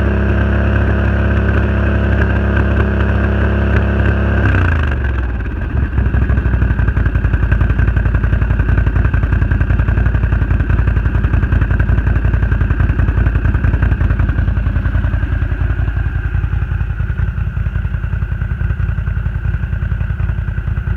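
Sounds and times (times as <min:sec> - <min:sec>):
atv engine idling unevenly: 0:00.0 - 0:20.9.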